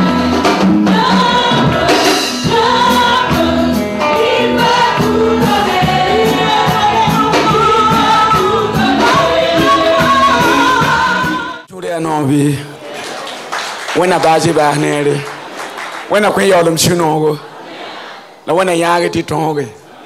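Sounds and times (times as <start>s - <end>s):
choir singing gospel song: 0.0s - 20.0s.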